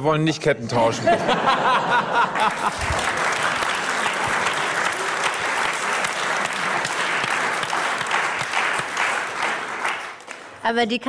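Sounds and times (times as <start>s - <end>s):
audience applauding: 1.5s - 10.6s.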